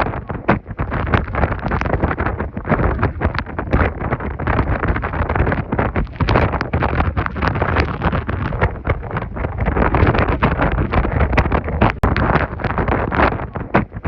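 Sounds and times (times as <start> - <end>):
sharp crackles: 0.0 - 14.0
strong wind buffeting microphone: 0.0 - 14.0.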